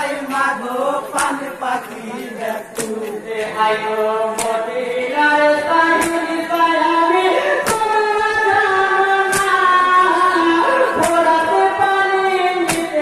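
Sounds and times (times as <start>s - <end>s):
men singing a lament: 0.0s - 13.0s
sharp beats: 0.0s - 13.0s.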